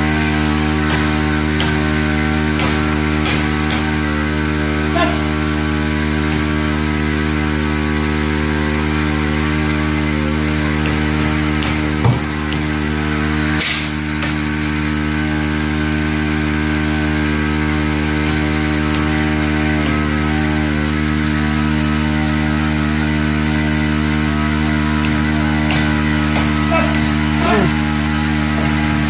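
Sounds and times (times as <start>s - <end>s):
sprayer engine running: 0.0s - 29.0s.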